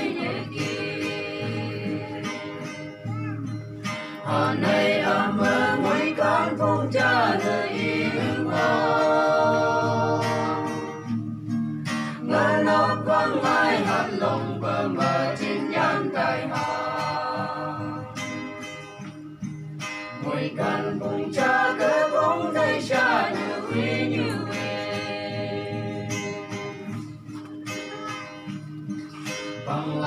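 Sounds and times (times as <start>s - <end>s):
group singing: 0.0s - 3.0s, 4.1s - 11.3s, 11.9s - 18.7s, 20.2s - 27.1s, 29.2s - 30.0s
acoustic guitar: 0.0s - 30.0s.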